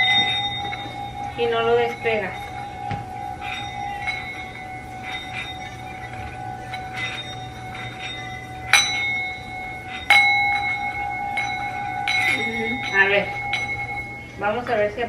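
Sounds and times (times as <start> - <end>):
singing bowl ringing: 0.0 - 15.0
singing bowl struck: 0.0 - 15.0.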